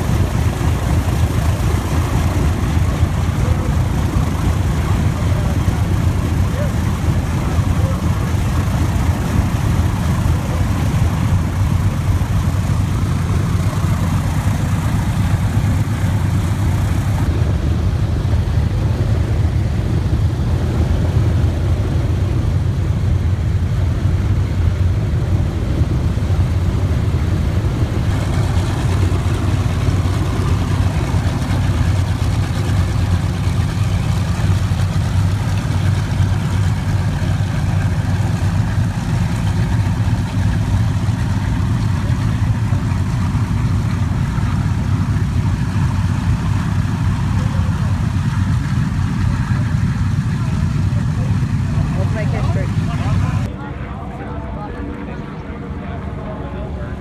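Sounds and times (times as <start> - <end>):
propeller aircraft engines running: 0.0 - 57.0.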